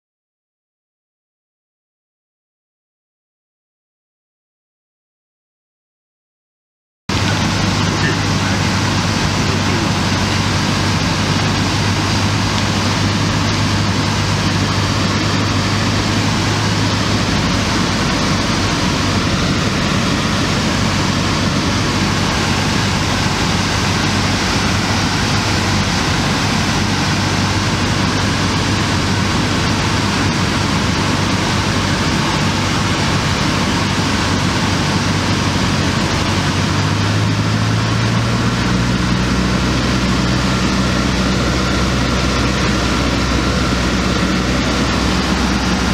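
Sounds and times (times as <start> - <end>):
airflow rush: 7.1 - 45.9
airplane engine droning: 7.1 - 45.9.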